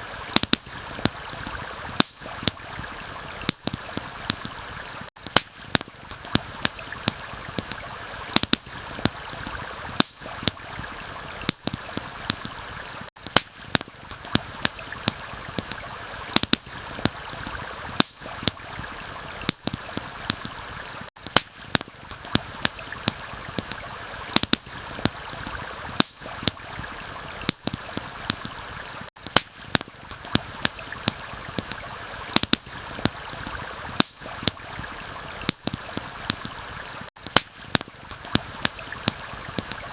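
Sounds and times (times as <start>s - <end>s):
campfire crackling: 0.0s - 39.9s
stream flowing: 0.0s - 39.9s.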